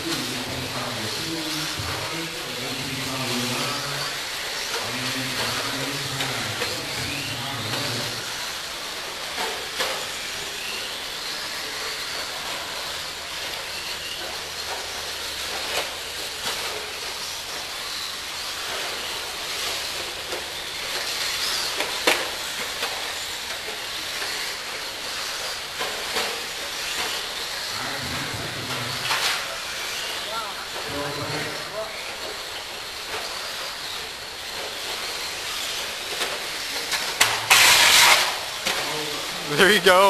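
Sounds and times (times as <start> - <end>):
rc trucks whining motors: 0.0 - 39.4.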